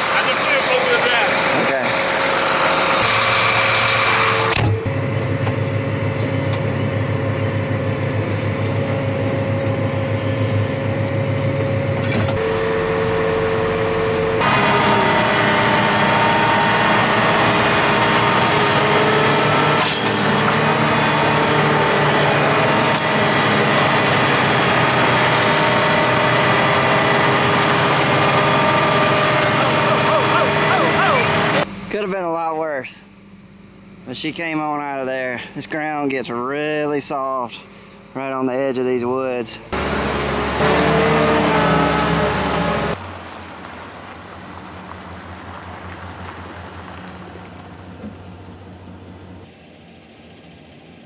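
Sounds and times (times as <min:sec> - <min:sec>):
truck engine running under load: 0:00.0 - 0:32.0, 0:39.6 - 0:51.0.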